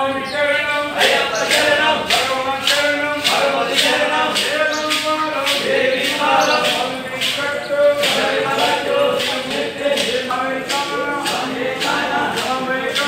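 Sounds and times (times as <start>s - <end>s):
group chanting: 0.0s - 13.0s
sharp time-keeping beat: 0.9s - 13.0s.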